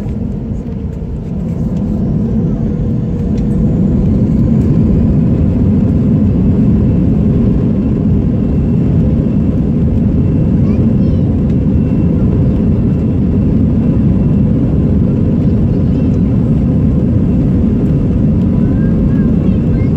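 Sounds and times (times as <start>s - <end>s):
jet engine rumble: 0.0s - 19.9s.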